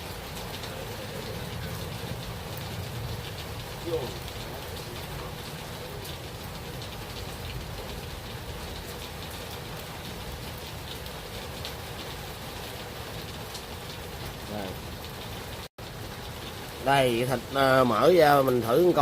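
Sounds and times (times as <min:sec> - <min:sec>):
raindrops ticking on surfaces: 0:00.0 - 0:19.0
steady rain: 0:00.0 - 0:19.0.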